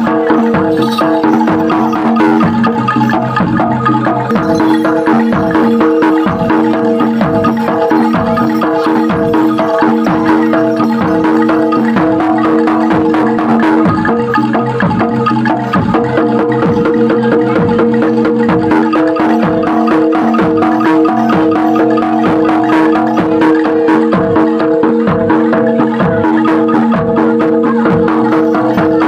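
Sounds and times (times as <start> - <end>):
gamelan ensemble playing: 0.0 - 29.0.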